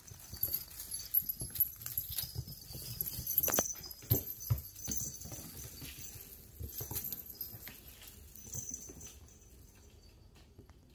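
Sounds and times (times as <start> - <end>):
crinkly streamers rustling: 0.0 - 10.1
kitten paws pattering on tile: 0.0 - 10.9.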